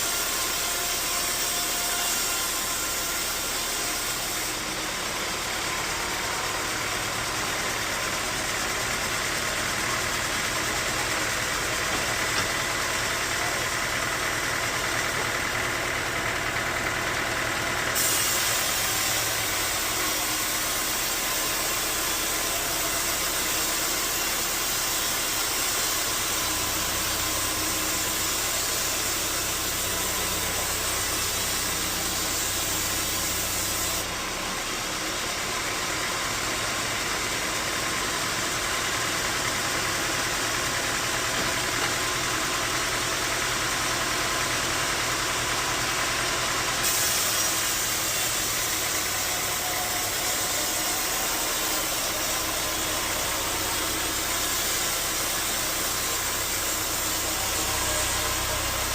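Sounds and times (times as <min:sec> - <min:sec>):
bandsaw sawmill drone: 0:00.0 - 0:58.9.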